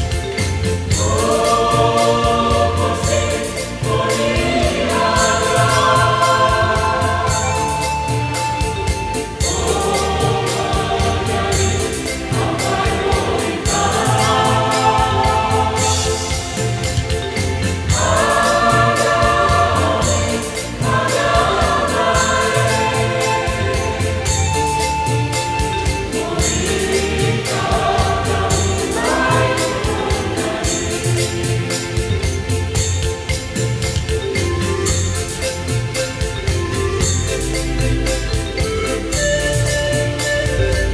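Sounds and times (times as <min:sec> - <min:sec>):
choir singing: 0:00.0 - 0:40.9
instrumental accompaniment: 0:00.0 - 0:40.9
steady drum beat: 0:00.0 - 0:40.9.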